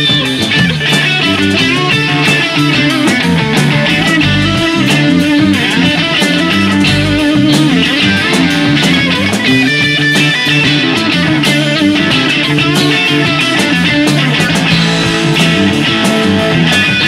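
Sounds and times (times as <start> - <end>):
bass guitar: 0.0 - 17.0
drum kit beat: 0.0 - 17.0
electric guitars: 0.0 - 17.0.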